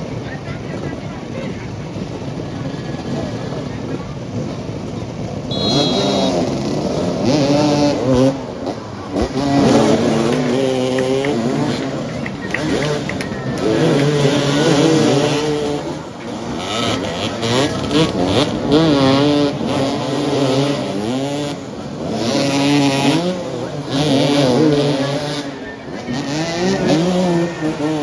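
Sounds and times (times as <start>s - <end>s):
dirt bikes revving: 0.0s - 28.0s.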